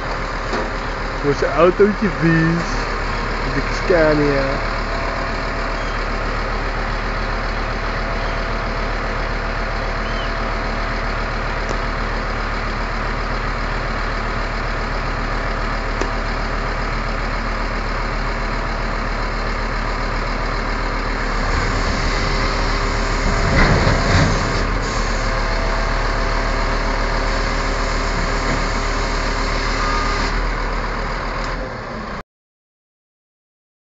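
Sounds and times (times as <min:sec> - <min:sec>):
truck diesel engine running: 0:00.0 - 0:32.2.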